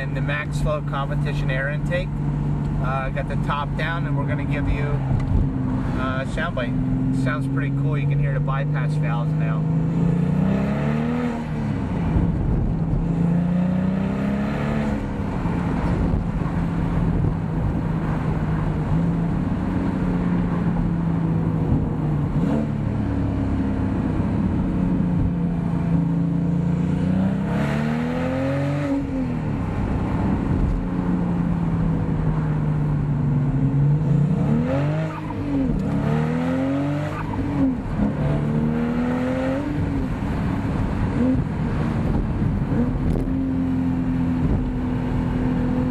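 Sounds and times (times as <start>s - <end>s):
sports car engine accelerating: 0.0s - 45.9s.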